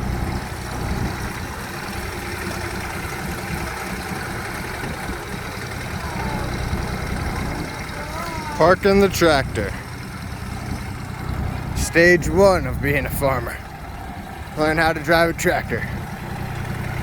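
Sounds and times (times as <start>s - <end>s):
tractor engine humming: 0.0s - 17.0s.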